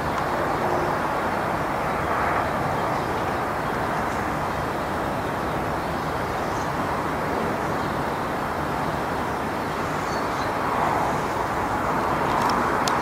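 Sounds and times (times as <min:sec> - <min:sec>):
distant traffic noise: 0:00.0 - 0:13.0.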